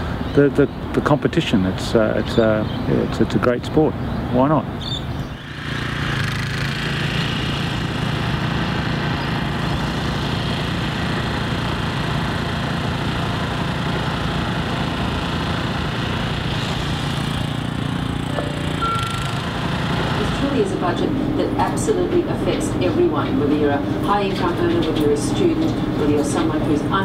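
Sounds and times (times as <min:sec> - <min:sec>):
small engine droning steadily: 0:00.0 - 0:27.0.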